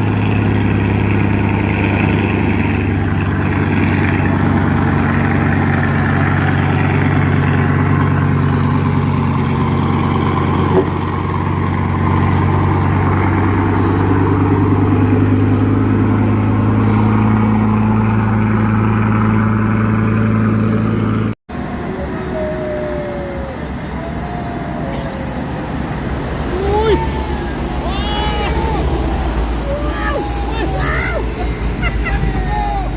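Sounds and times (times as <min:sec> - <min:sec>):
truck diesel engine running: 0:00.0 - 0:32.9.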